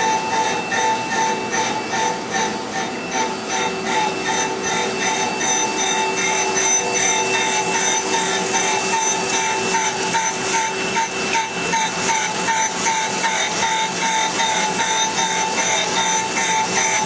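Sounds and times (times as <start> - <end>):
grinding wheel on steel: 0.0 - 17.0.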